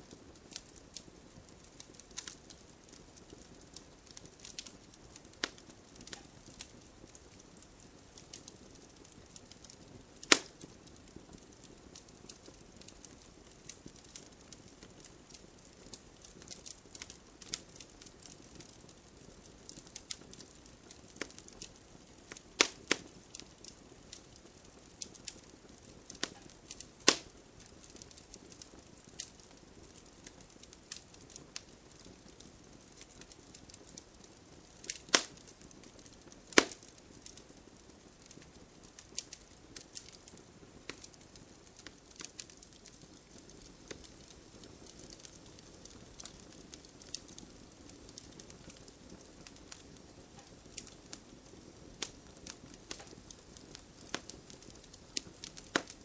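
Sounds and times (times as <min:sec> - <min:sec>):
bonfire crackling and popping: 0:00.0 - 0:56.0
faint rain hiss: 0:00.0 - 0:56.0.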